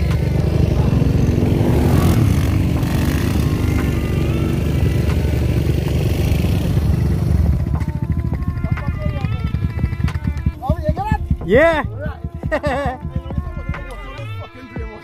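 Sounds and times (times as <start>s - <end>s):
atv engine running: 0.0s - 14.5s.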